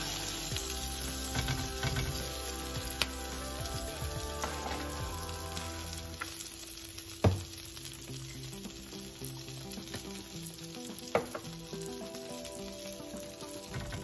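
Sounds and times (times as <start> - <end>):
sandwich sizzling on griddle: 0.0 - 14.0.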